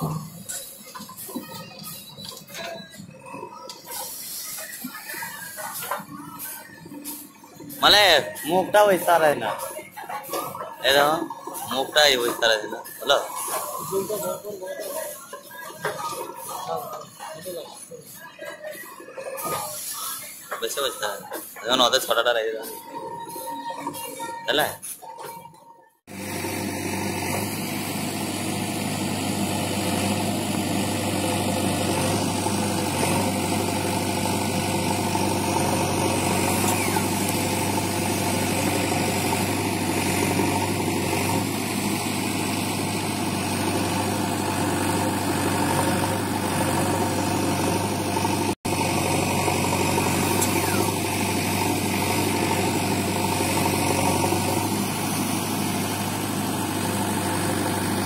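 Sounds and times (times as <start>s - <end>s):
diesel engine running: 0.0s - 25.2s, 26.1s - 58.0s.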